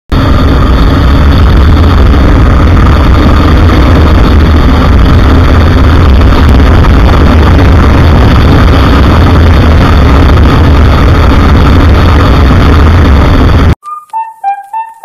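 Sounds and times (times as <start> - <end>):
motorcycle engine at speed: 0.1 - 13.8
wind rush on microphone: 0.1 - 13.8.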